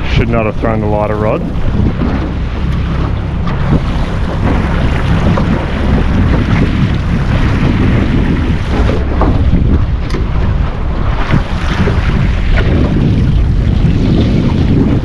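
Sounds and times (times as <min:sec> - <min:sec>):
water washing against boat: 0:00.0 - 0:15.0
wind rumble on microphone: 0:00.0 - 0:15.0.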